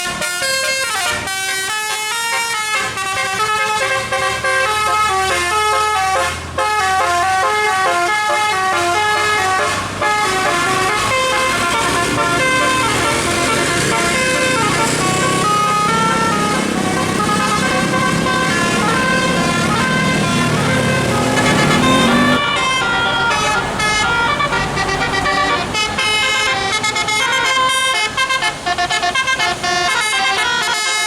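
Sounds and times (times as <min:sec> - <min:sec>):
bus musical air horn: 0:00.0 - 0:31.0
low engine rumble: 0:04.2 - 0:30.6.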